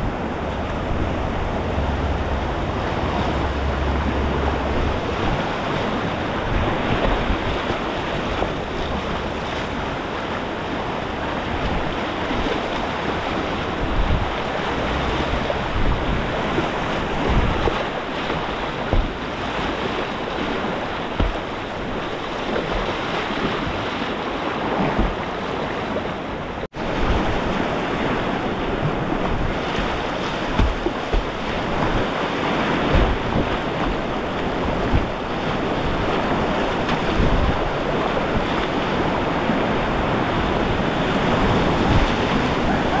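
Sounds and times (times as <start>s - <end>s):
wind buffeting microphone: 0.0s - 25.7s, 26.6s - 43.0s
whitewater rushing: 0.0s - 43.0s.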